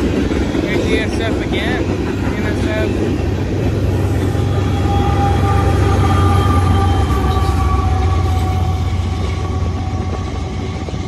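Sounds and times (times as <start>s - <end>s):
locomotive engine rumble: 0.0s - 11.0s
steel wheels on rails: 0.0s - 11.0s.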